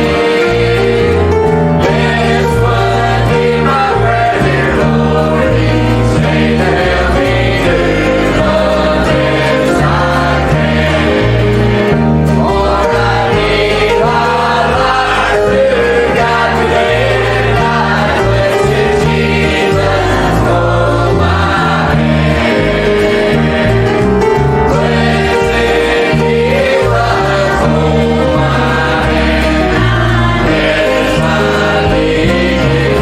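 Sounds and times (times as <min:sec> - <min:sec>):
instrumental accompaniment with bass: 0:00.0 - 0:33.0
voices singing a hymn: 0:00.0 - 0:33.0.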